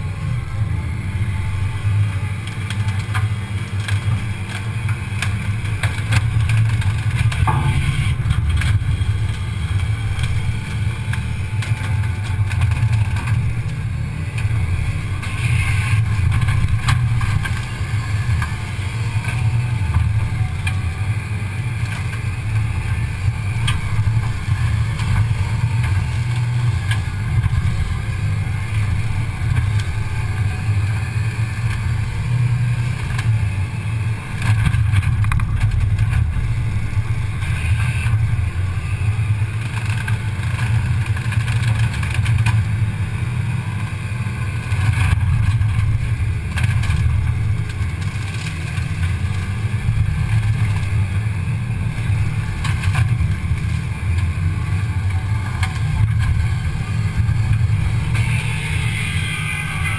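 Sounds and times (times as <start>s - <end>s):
cutting head whine: 0.0s - 41.3s, 43.6s - 59.9s
diesel engine drone: 0.0s - 59.9s.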